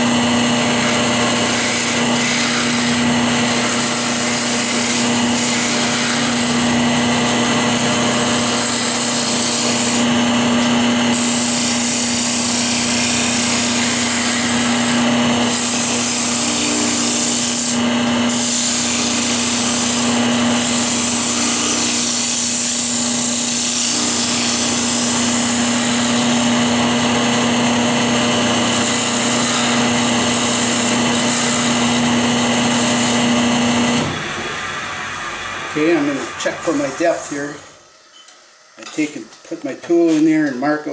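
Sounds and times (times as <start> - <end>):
turning tool scraping wood: 0.0 - 34.1, 35.7 - 37.8
lathe humming: 0.0 - 40.3.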